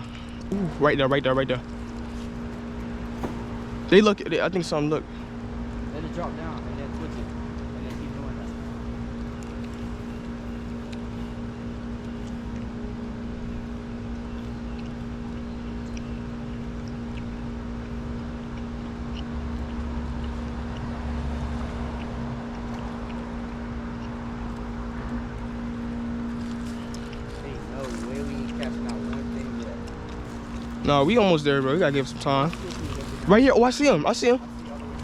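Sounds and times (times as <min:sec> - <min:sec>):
steady motor hum: 0:00.0 - 0:35.0.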